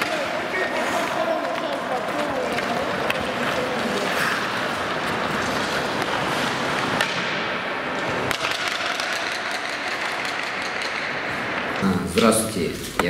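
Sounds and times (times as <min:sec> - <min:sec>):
skates scraping on ice: 0:00.0 - 0:13.0
sticks clacking on puck: 0:00.0 - 0:13.0.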